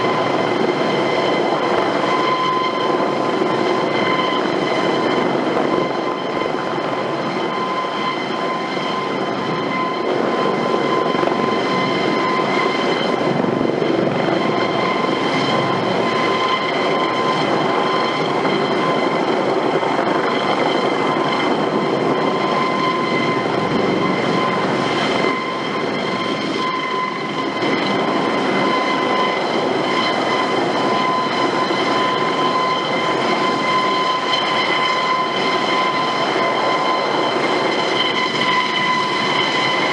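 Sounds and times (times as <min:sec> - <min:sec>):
continuous rushing noise: 0:00.0 - 0:39.9
helicopter turbine whine: 0:00.0 - 0:39.9.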